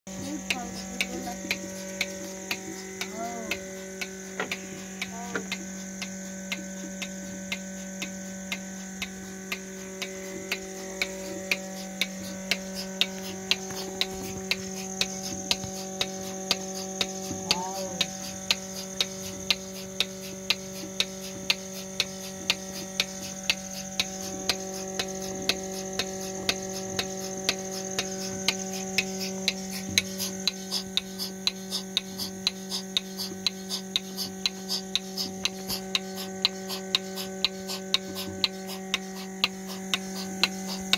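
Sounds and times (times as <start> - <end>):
vacuum pump motor humming: 0.0 - 40.9
pulsator clicking: 0.1 - 40.9.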